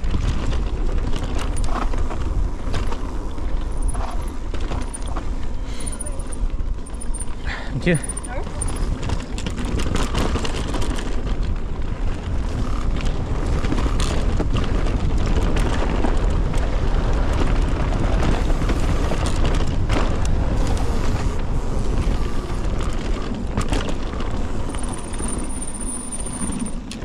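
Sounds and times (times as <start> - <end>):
bike knocks and rattles: 0.0 - 7.4, 8.0 - 27.0
tyre roar on dirt: 0.0 - 27.0
wind rush on microphone: 0.0 - 27.0.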